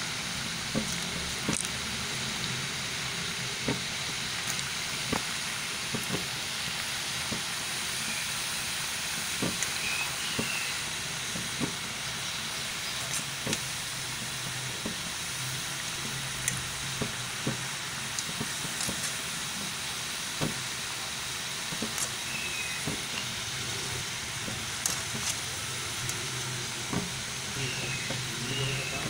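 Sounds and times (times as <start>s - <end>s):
dough deep-frying in oil: 0.0s - 29.0s.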